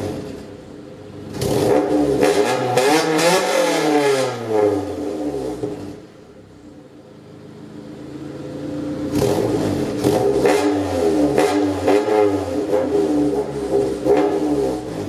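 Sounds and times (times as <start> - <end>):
car engine revving: 1.2 - 6.2, 7.9 - 15.0.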